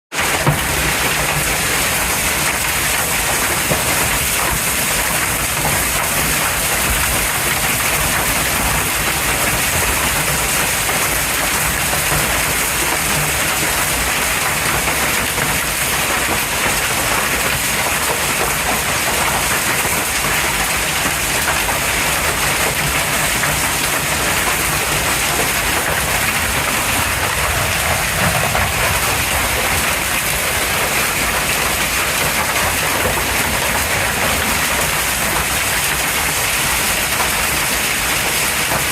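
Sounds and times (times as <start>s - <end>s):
heavy rain and hail pelting: 0.1s - 38.9s.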